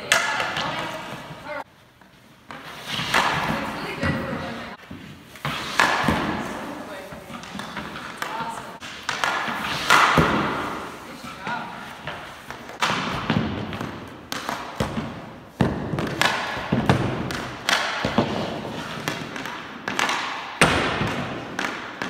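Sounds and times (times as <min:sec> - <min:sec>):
hockey pucks knocking and slapping: 0:00.0 - 0:22.0.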